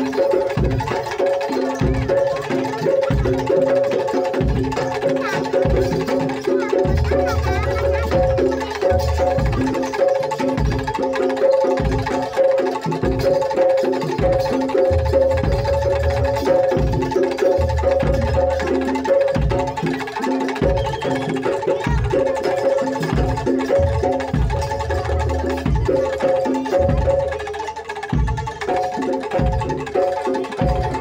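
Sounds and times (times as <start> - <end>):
pitched metallic notes: 0.0 - 31.0.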